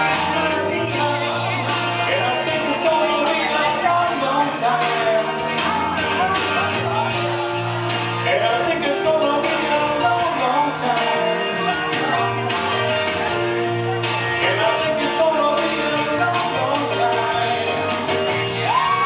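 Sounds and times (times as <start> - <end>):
backing music: 0.0 - 19.0
man singing into a microphone: 0.0 - 19.0.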